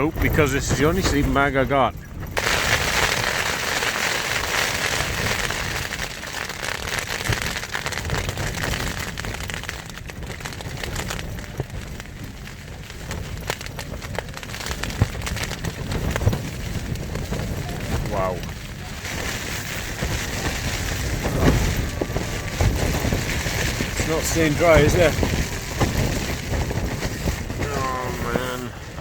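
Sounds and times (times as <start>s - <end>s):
heavy rain on a tent: 2.2s - 29.0s.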